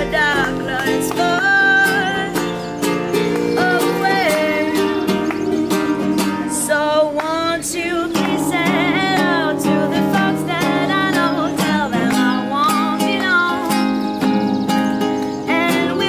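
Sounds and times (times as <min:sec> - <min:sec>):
woman singing: 0:00.0 - 0:14.4, 0:15.1 - 0:16.0
strummed acoustic guitar: 0:00.0 - 0:16.0.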